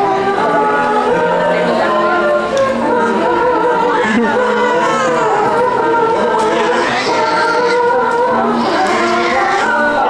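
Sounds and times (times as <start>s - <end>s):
men singing in close harmony: 0.0s - 10.0s.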